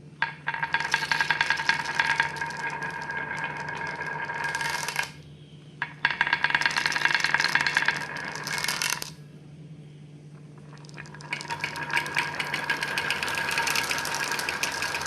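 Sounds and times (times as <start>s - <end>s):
steady ringing tone: 0.0s - 15.0s
marbles rattling down a track: 0.2s - 5.2s, 5.8s - 9.2s, 10.6s - 15.0s.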